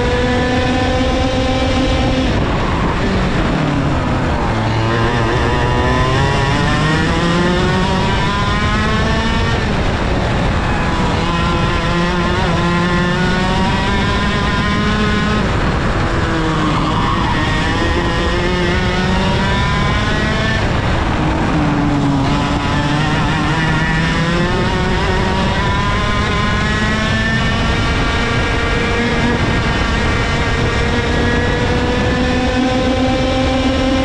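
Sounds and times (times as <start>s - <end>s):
kart engine revving: 0.0s - 34.0s.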